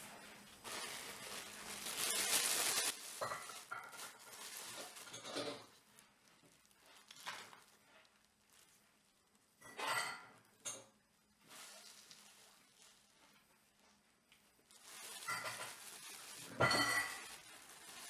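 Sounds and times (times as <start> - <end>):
plastic bag crinkling: 0.1 - 9.3, 11.4 - 13.4, 14.6 - 18.0.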